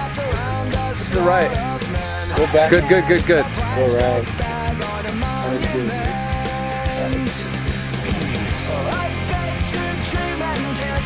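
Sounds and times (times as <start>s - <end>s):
rock music: 0.0s - 11.0s
steady drum beat: 0.0s - 11.0s.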